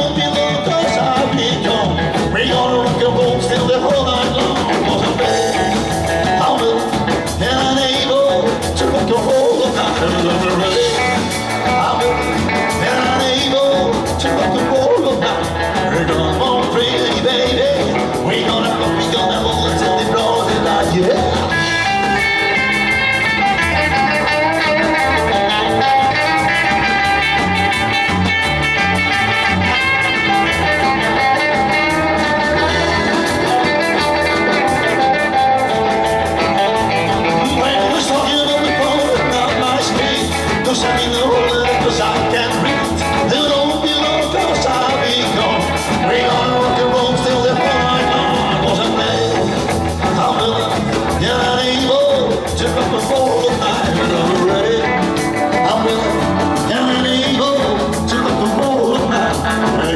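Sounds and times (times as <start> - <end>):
drums beat: 0.0 - 59.9
electric guitar: 0.0 - 59.9
rock and roll band playing: 0.0 - 59.9.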